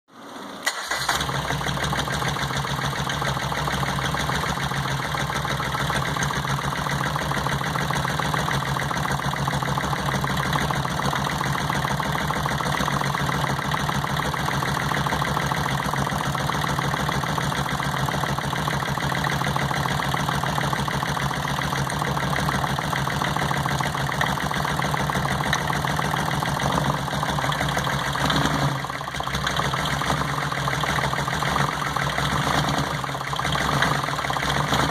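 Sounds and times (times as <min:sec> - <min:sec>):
misfiring engine idling: 0:00.4 - 0:34.9.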